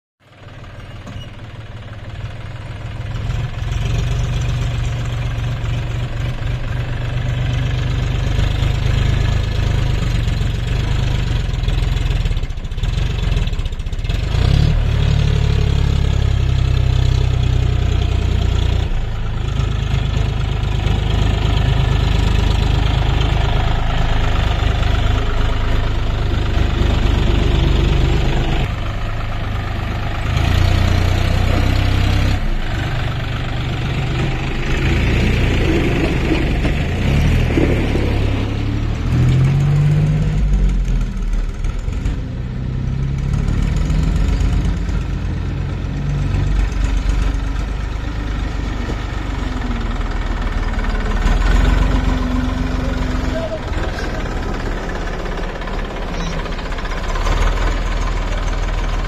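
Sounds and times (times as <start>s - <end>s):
tractor diesel engine rumbling: 0.2s - 59.0s.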